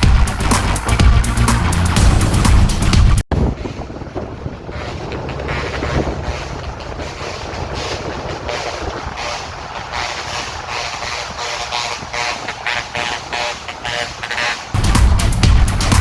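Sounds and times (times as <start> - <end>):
truck engine rumble: 0.0 - 16.0
tyre noise: 0.0 - 16.0
wind buffeting microphone: 0.0 - 16.0.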